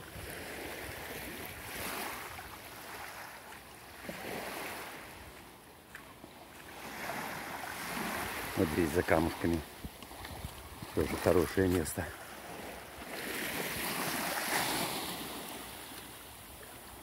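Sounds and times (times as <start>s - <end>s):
small waves lapping on pebbles: 0.0s - 17.0s.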